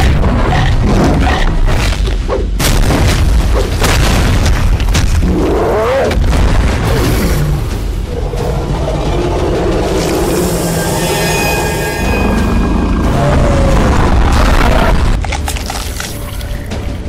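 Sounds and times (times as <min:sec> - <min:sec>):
dramatic music: 0:00.0 - 0:17.0
deep rumble: 0:02.9 - 0:17.0.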